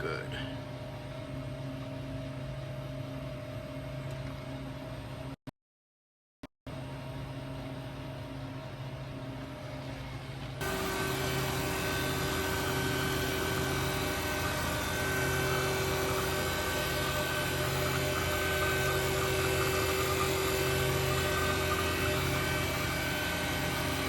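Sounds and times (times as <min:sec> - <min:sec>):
vacuum pump running: 0:00.0 - 0:05.3, 0:06.7 - 0:24.0.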